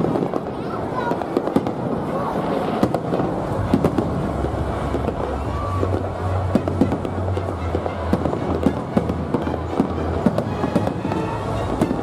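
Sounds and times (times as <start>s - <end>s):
fireworks popping and crackling: 0.0s - 12.0s
sharp firework bangs: 0.0s - 12.0s.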